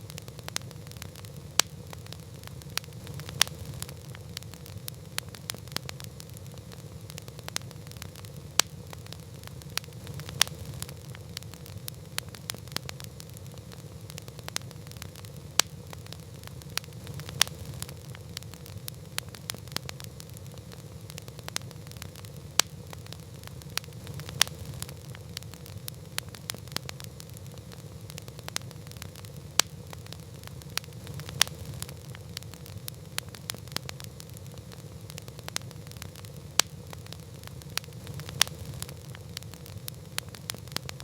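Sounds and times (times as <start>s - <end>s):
campfire snaps and pops: 0.0s - 41.0s.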